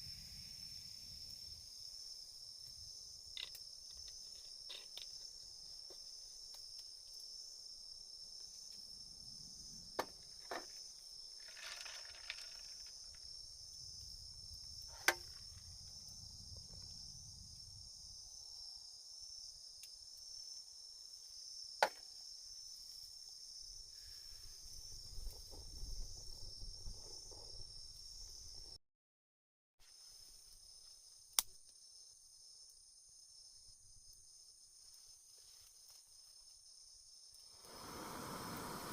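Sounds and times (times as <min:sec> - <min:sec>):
crickets and insects trilling: 0:00.0 - 0:28.8, 0:29.9 - 0:38.9.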